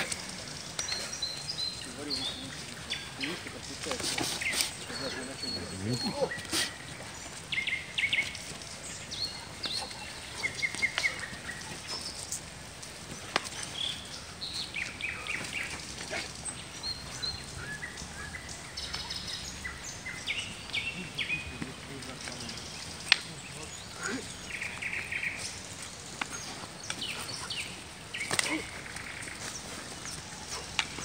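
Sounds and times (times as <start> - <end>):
songbirds chirping: 0.0 - 31.0
steady background hiss: 0.0 - 31.0.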